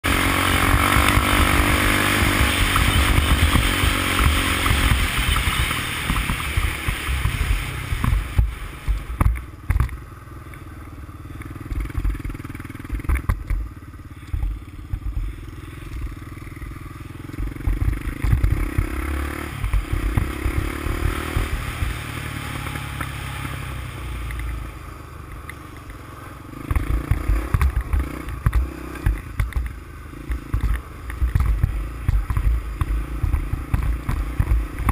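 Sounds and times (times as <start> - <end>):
low thumps over bumps: 0.0 - 10.0, 11.7 - 16.2, 17.3 - 22.9, 26.7 - 34.9
atv engine revving: 0.0 - 34.9.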